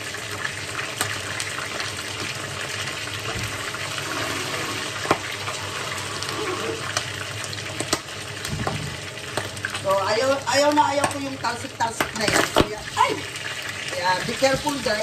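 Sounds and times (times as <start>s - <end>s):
food sizzling in oil: 0.0s - 15.0s
oil crackling and popping: 0.0s - 15.0s.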